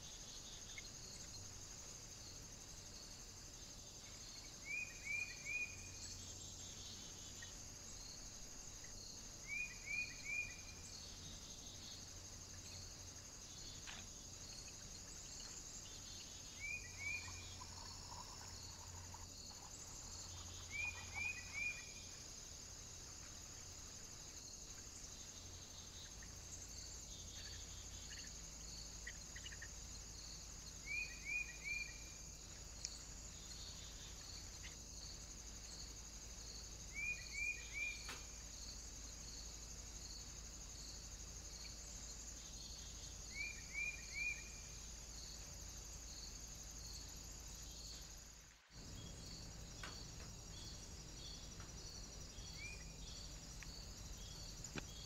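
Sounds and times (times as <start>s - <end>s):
high insect trill: 0.0s - 55.0s.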